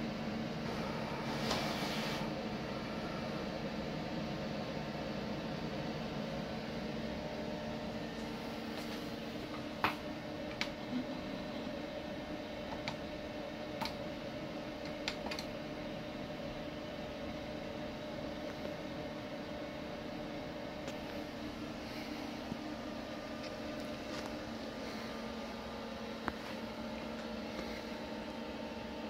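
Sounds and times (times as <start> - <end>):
fan hum: 0.0 - 29.0.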